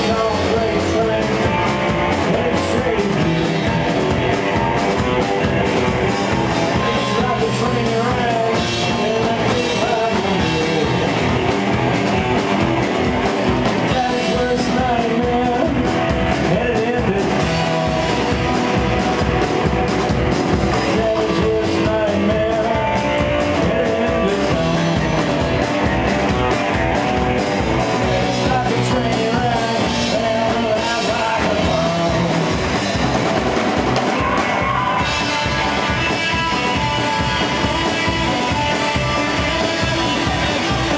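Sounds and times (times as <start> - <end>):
man singing: 0.0 - 12.2, 13.1 - 33.0, 34.1 - 40.9
drums: 0.0 - 40.9
electric guitar: 0.0 - 40.9
upright bass: 0.0 - 40.9.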